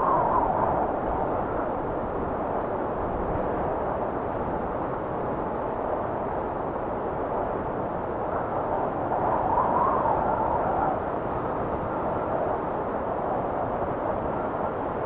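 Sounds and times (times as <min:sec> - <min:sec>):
steady wind blowing: 0:00.0 - 0:15.0.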